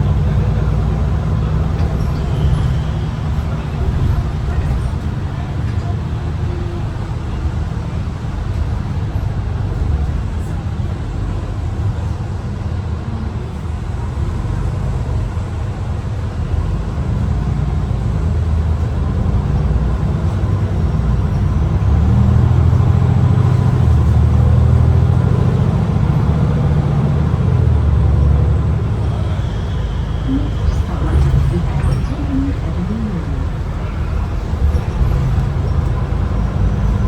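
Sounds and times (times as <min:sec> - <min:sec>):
bus engine rumbling: 0:00.0 - 0:37.0.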